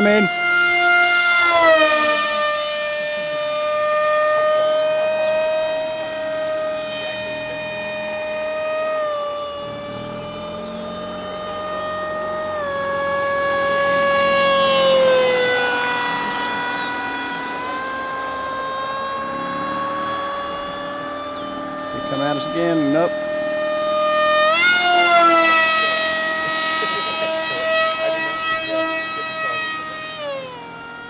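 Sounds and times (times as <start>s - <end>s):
model plane motor whining: 0.0s - 31.0s.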